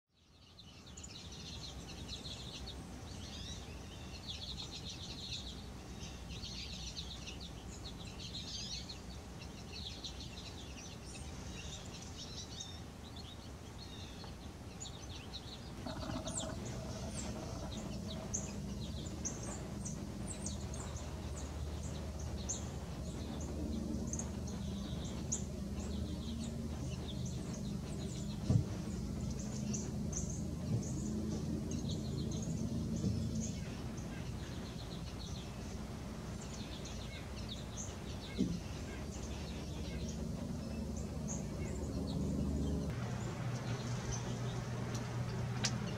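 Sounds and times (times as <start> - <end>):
low steady rumble: 0.6 - 45.9
finches twittering: 0.7 - 45.9.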